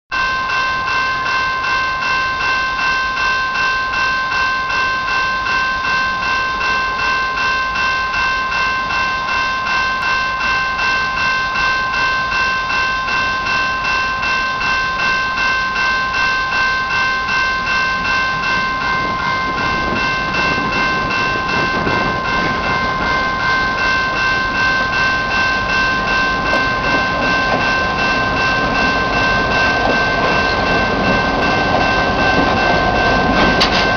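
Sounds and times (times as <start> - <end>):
bell ringing steadily: 0.1 - 33.9
diesel locomotive engine rumble: 3.9 - 33.9.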